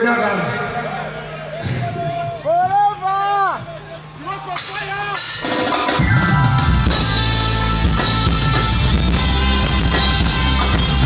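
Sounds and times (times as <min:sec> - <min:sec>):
band playing a steady groove: 0:01.6 - 0:11.0.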